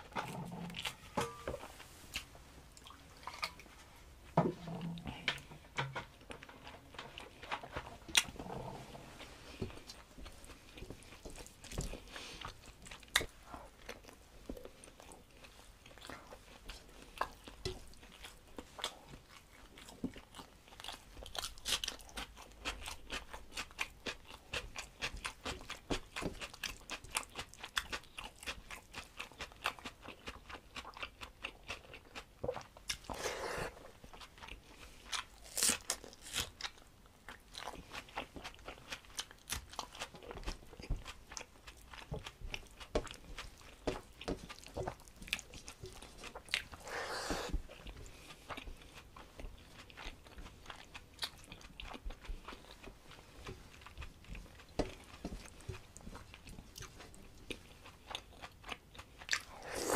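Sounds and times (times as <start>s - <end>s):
person chewing with wet mouth smacks: 9.6s - 59.9s.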